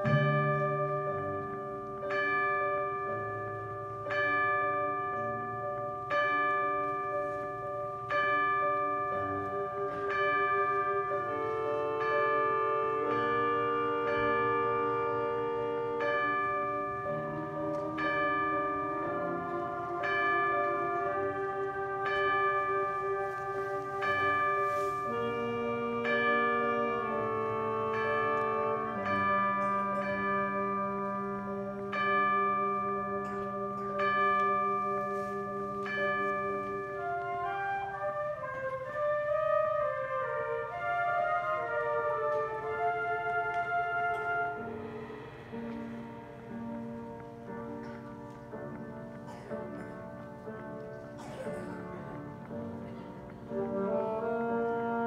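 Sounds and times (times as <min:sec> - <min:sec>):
concert band wind chords: 0:00.0 - 0:55.0.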